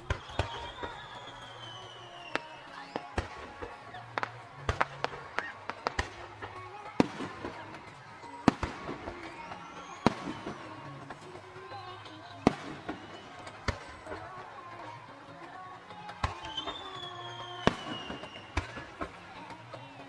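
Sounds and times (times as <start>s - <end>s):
small firework cracks: 0.0s - 20.0s.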